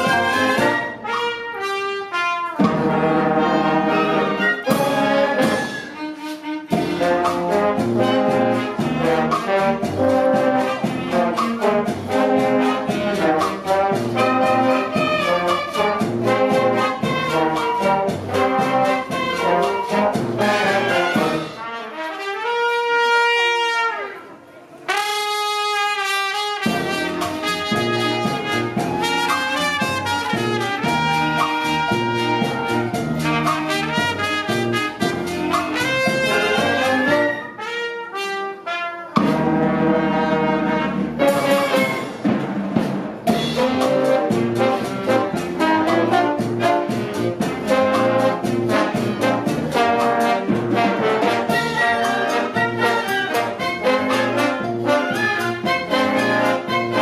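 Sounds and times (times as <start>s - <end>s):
wind band playing a mambo: 0.0s - 57.0s.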